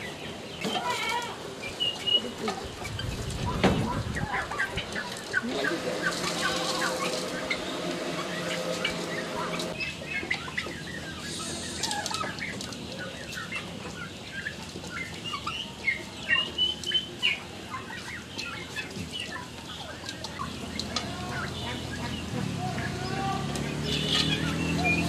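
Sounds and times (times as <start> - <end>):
chickens clucking and chirping: 0.0 - 25.0.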